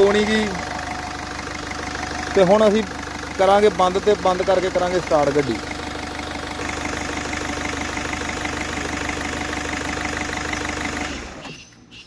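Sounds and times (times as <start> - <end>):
car engine idling: 0.0 - 11.4
engine switching off: 0.0 - 11.6.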